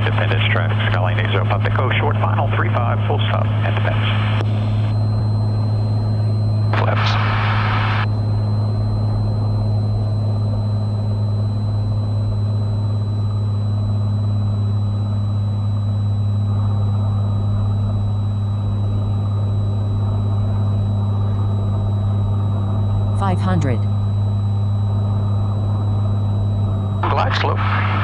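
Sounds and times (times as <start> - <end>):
aircraft engine and propeller droning: 0.0 - 23.2, 23.9 - 28.0
faint high whine: 0.0 - 28.0.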